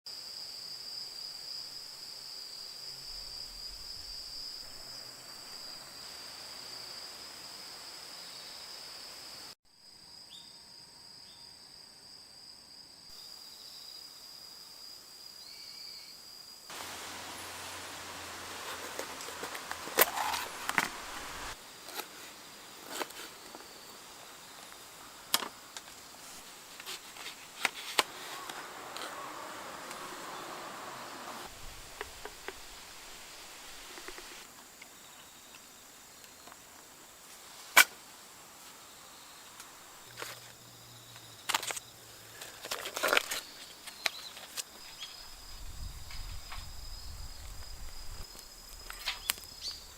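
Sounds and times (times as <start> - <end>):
insects chirring: 0.1 - 49.9.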